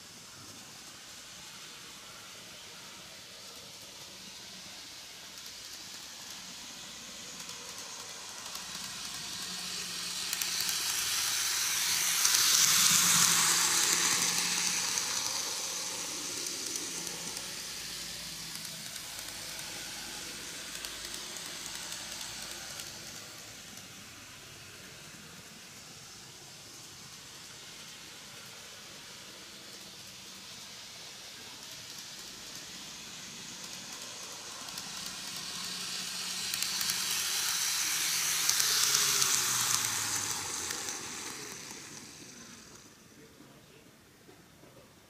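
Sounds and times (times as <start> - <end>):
model train motor whirring: 0.0 - 43.4.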